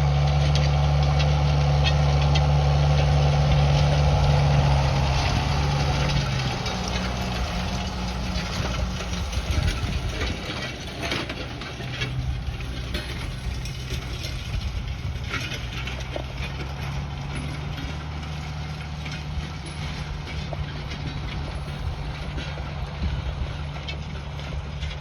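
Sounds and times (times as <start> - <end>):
tractor engine running: 0.0 - 25.0
harrow metal clanking: 0.5 - 25.0.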